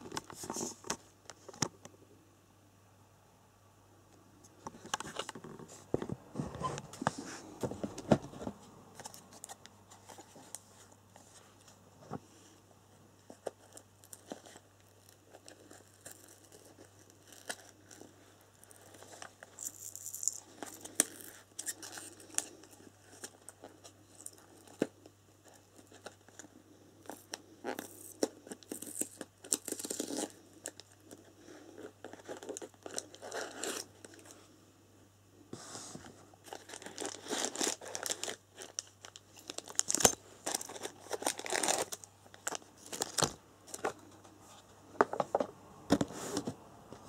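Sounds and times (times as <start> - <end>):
cardboard and plastic packaging rustling: 4.6 - 12.3, 13.2 - 26.5, 27.1 - 34.4, 35.6 - 46.6.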